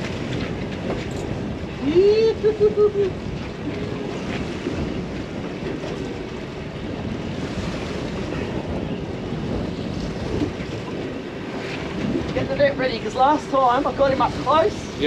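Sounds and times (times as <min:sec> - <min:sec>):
water washing against boat hull: 0:00.0 - 0:15.0
wind buffeting microphone: 0:00.0 - 0:15.0.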